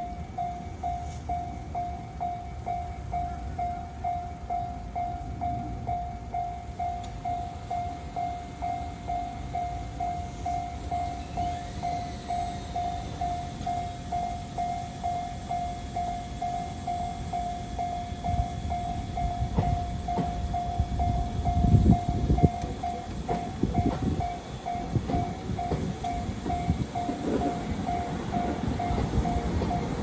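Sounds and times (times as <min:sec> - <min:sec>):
crossing warning bell dinging: 0:00.0 - 0:30.0
train passing with clacking wheels: 0:00.0 - 0:30.0.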